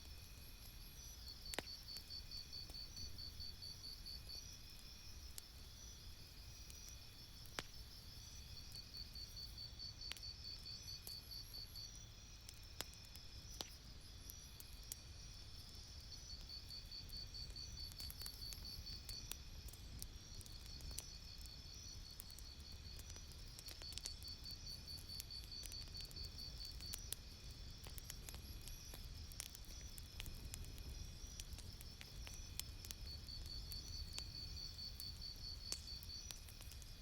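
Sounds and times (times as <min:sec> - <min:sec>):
campfire crackling and popping: 0:00.1 - 0:37.0
insects chirping: 0:00.1 - 0:37.0.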